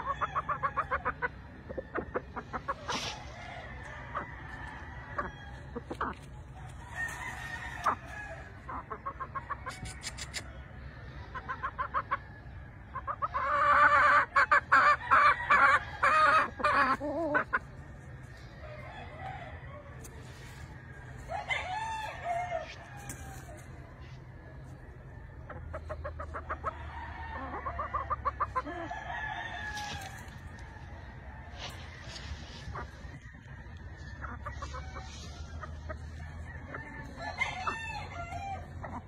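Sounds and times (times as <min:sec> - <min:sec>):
roosters crowing: 0:00.0 - 0:10.9, 0:12.0 - 0:17.6, 0:18.4 - 0:24.1, 0:25.0 - 0:39.0
chickens clucking: 0:00.0 - 0:39.0.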